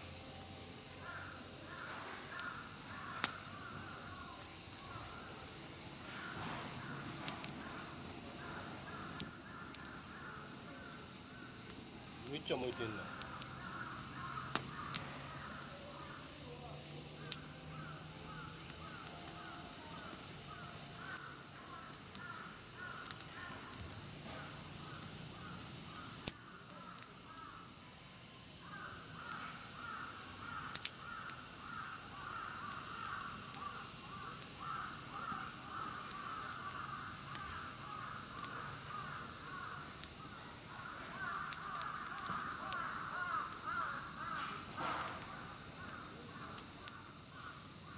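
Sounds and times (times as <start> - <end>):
high-pitched insect drone: 0.0 - 26.2, 27.3 - 47.9
faint campfire crackles: 0.0 - 47.9.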